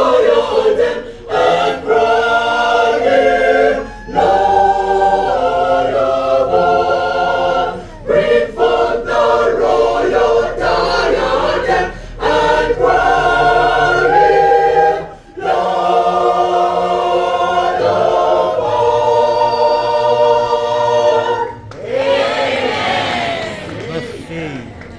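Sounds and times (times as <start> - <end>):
choir singing a hymn: 0.0 - 23.9.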